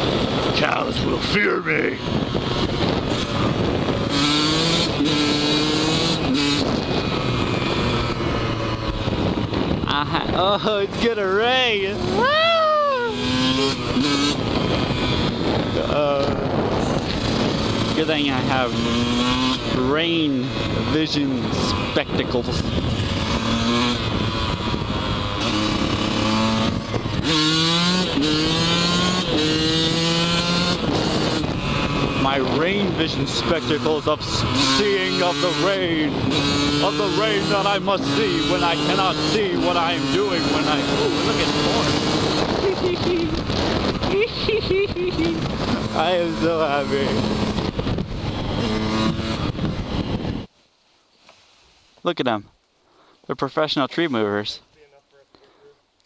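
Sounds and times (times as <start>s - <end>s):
dirt bike engine running hard: 0.0s - 50.5s.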